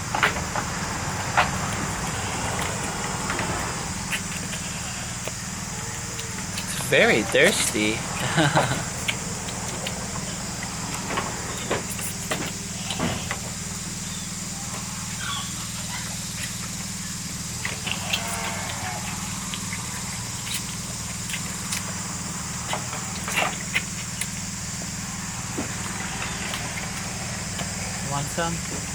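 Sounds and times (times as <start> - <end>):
low mechanical hum: 0.0 - 28.9
thin high hiss: 1.6 - 28.9.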